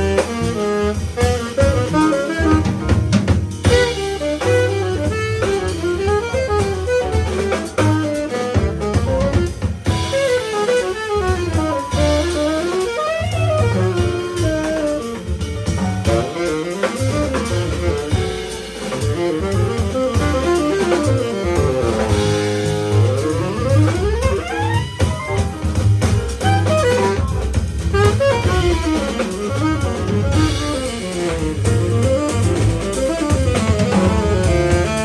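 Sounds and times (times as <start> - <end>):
double bass: 0.0 - 35.0
drum kit: 0.0 - 35.0
piano: 0.0 - 35.0
tenor saxophone: 0.0 - 35.0.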